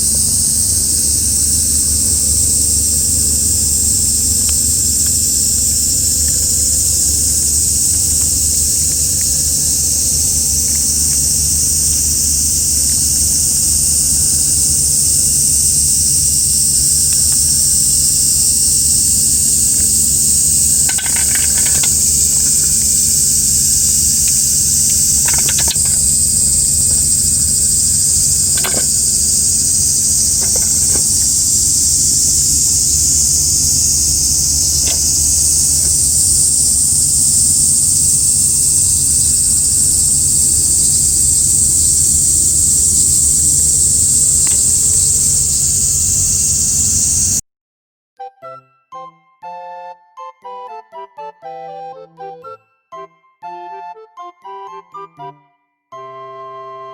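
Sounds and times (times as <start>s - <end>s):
high-pitched insect chorus: 0.0s - 47.4s
short calls: 0.1s - 47.4s.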